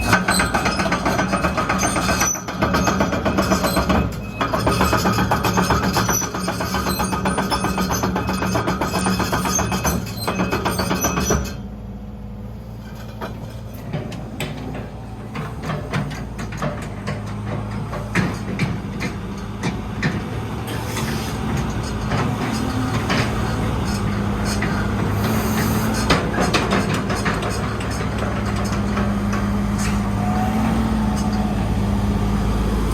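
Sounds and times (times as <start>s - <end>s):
metal knocks and clanks: 0.0s - 11.6s, 12.8s - 31.6s
excavator diesel engine running: 0.0s - 32.9s.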